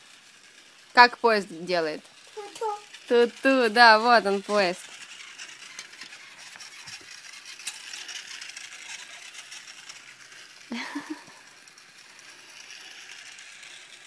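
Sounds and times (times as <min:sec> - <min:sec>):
toy train motor whirring: 0:00.0 - 0:14.0
wheels clicking on track: 0:00.0 - 0:14.0.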